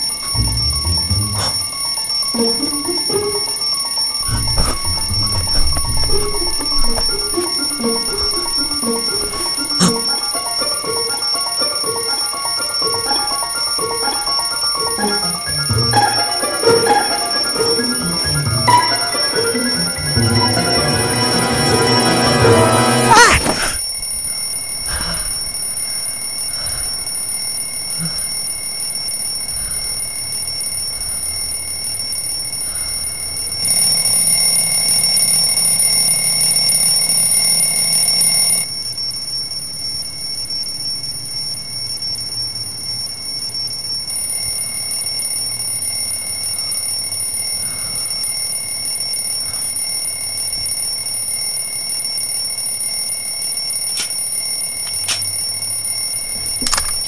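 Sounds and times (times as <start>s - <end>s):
alarm clock ringing: 0.0s - 57.0s.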